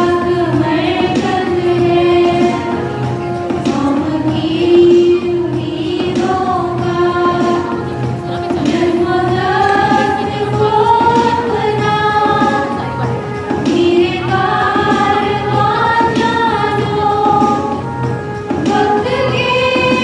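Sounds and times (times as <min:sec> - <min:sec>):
young choir singing: 0:00.0 - 0:17.9, 0:18.6 - 0:20.0.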